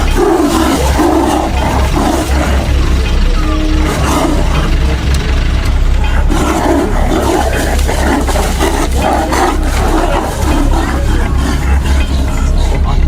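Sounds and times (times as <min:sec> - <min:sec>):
rough animal growls: 0:00.0 - 0:13.0
steady low hum: 0:00.0 - 0:13.0.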